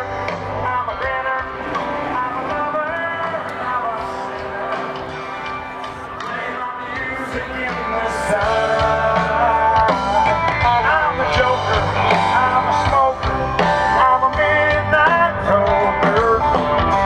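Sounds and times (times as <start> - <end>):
amplified rock band with guitar: 0.0 - 17.0.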